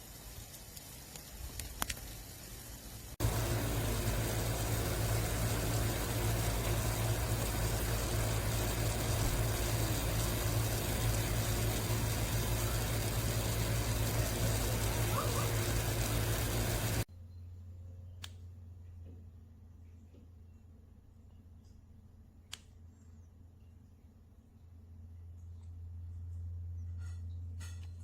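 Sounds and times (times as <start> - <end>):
low constant hum: 2.2 - 28.0.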